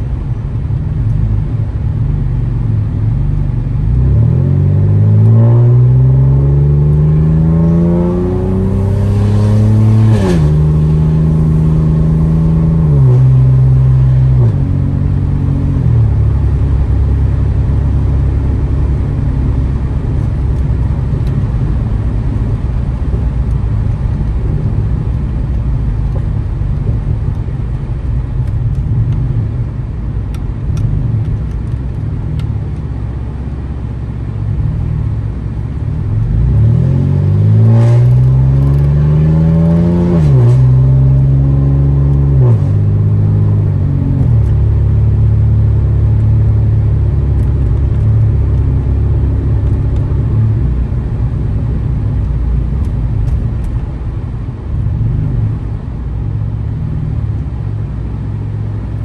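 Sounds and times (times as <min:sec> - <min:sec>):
car exhaust accelerating hard: 0:00.0 - 0:59.0.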